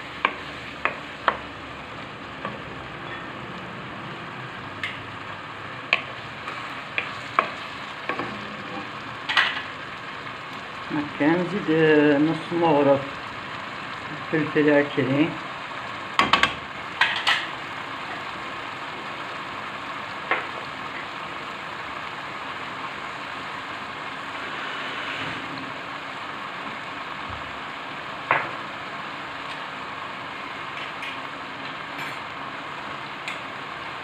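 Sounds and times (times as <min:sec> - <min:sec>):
chicken sizzling in oil: 0:00.0 - 0:34.0.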